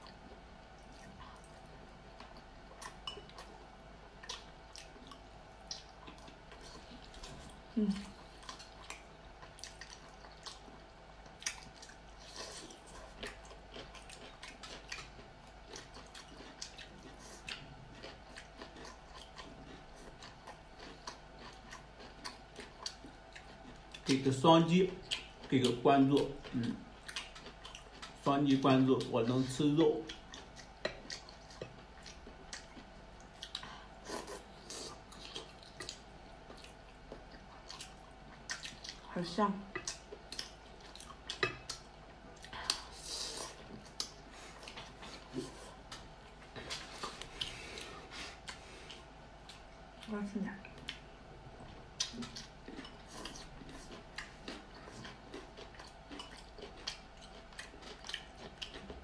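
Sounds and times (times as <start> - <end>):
person chewing meat: 0.0 - 39.1, 39.7 - 59.0.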